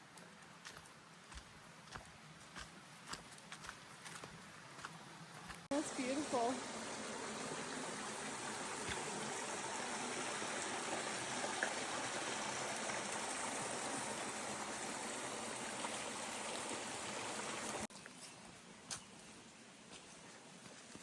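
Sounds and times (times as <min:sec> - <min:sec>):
stream water running: 0:00.0 - 0:21.0.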